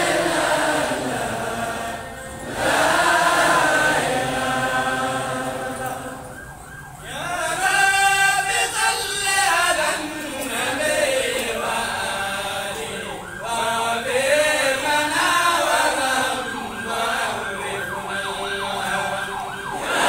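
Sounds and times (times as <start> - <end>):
voices chanting together: 0.0 - 6.4, 7.0 - 20.0.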